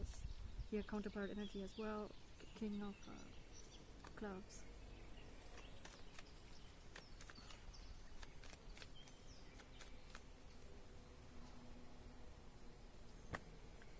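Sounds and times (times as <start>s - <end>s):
faint high bird chirps: 0.0s - 11.2s.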